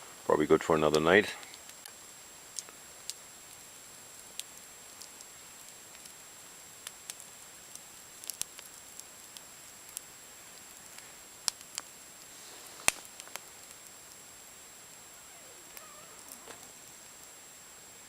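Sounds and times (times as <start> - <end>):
campfire crackling and popping: 0.0 - 18.0
faint steady hiss: 0.0 - 18.0.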